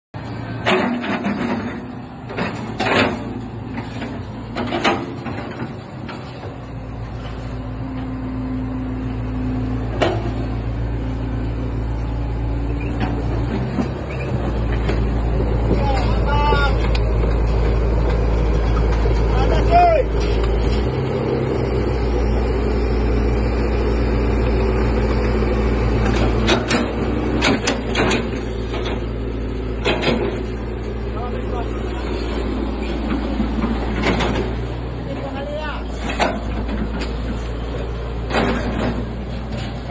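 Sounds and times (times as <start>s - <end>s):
excavator running: 0.2s - 39.9s.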